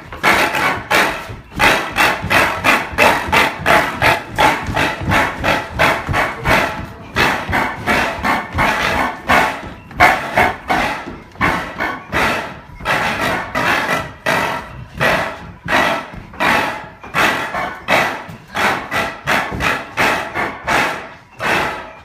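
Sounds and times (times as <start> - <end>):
rapid percussive clattering: 0.0 - 22.0.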